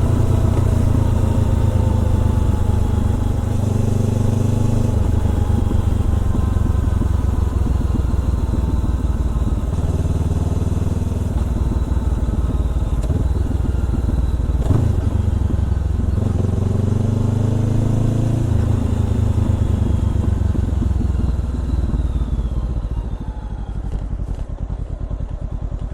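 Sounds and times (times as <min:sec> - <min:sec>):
motorcycle engine shifting gears: 0:00.0 - 0:25.9.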